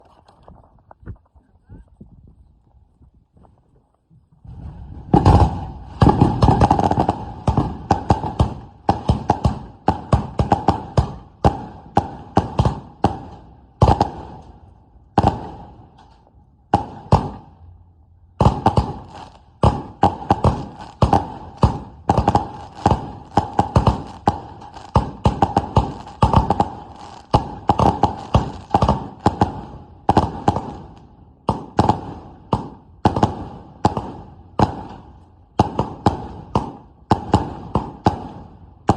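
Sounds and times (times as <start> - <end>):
firework cake firing loud shots: 4.5 - 14.4, 15.2 - 16.0, 16.7 - 17.6, 18.4 - 38.9.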